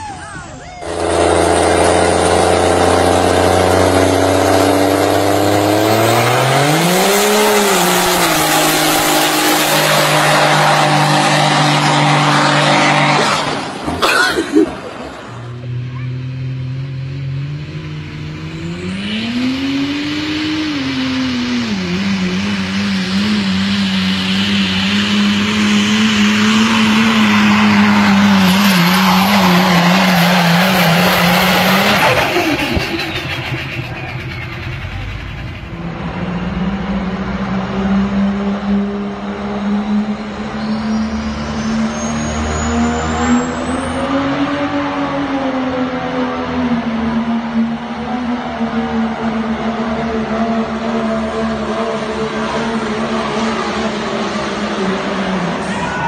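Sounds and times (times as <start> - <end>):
diesel engines under load: 0.0 - 56.0.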